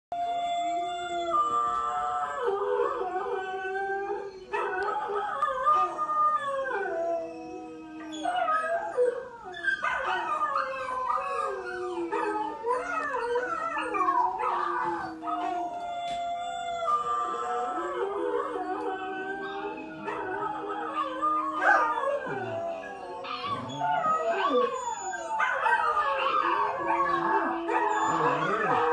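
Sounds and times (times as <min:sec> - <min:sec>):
recorded howling from a tv: 0:00.1 - 0:28.9.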